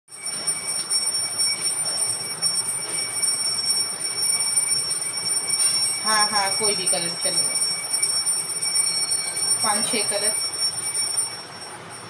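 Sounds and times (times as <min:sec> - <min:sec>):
high-pitched whine: 0:00.1 - 0:12.0.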